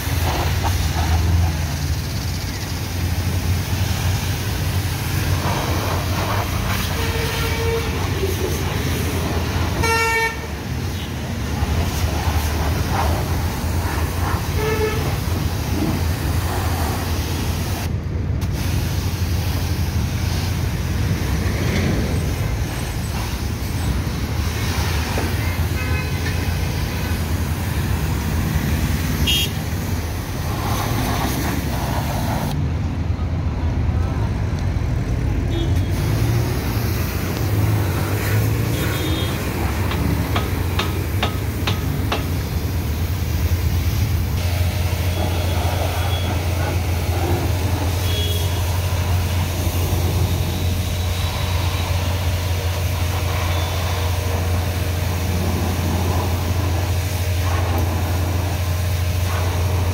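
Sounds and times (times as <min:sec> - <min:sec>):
pressure washer humming: 0:00.0 - 0:17.9, 0:18.5 - 0:32.6, 0:35.5 - 0:59.9
water jet hissing on car: 0:00.0 - 0:32.6, 0:35.5 - 0:59.9
passing road traffic: 0:00.0 - 0:59.9.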